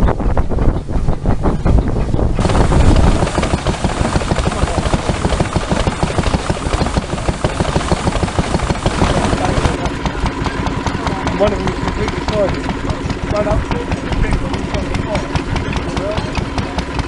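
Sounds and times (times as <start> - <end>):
stationary engine running: 2.4 - 17.0.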